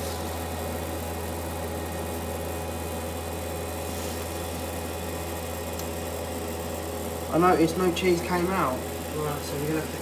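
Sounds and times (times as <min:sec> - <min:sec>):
kitchen appliance humming: 0:00.0 - 0:10.0.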